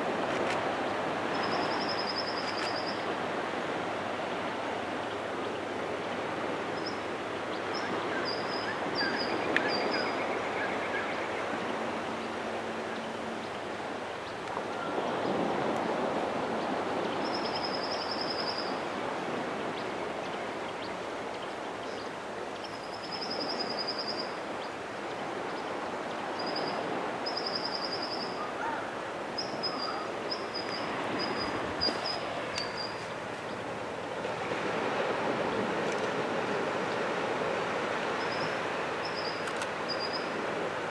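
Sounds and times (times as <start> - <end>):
surf washing on a sandy beach: 0.0 - 40.9.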